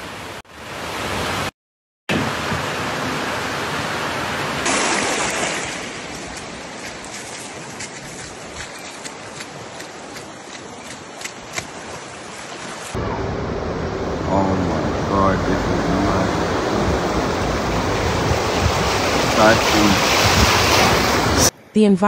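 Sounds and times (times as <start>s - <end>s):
rushing floodwater: 2.1s - 21.5s.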